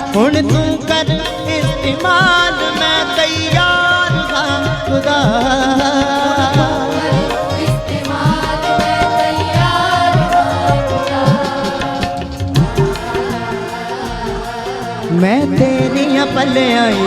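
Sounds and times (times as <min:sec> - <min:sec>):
hand drum beat: 0:00.0 - 0:17.0
sustained melodic lead: 0:00.0 - 0:17.0.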